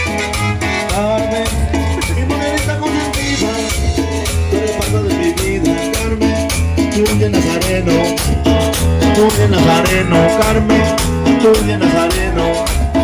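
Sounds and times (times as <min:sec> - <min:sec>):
latin dance music: 0:00.0 - 0:13.0.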